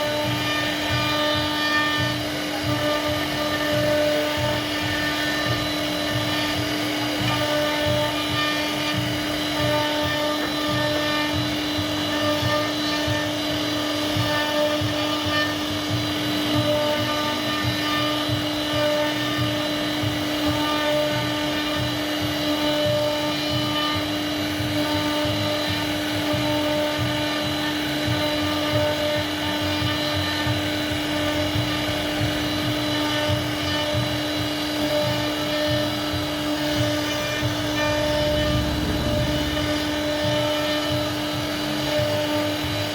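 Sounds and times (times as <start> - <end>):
low chatter of cutting wood: 0.0 - 42.9
router spindle whine: 0.0 - 42.9.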